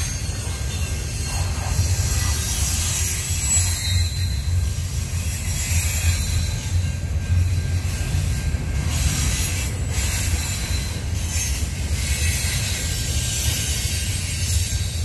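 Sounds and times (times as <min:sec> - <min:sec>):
hissing wheel squeal: 0:00.0 - 0:15.0
train cars rumbling on rails: 0:00.0 - 0:15.0.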